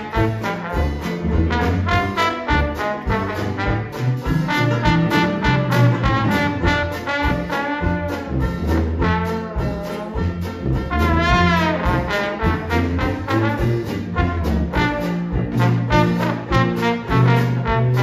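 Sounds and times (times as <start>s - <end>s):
jazz band playing: 0.0s - 18.0s
trombone: 0.0s - 18.0s.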